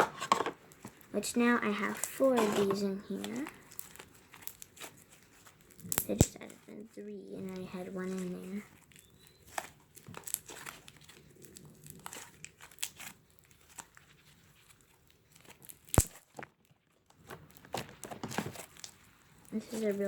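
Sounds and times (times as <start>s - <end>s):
slime crackling and popping: 0.6s - 20.0s.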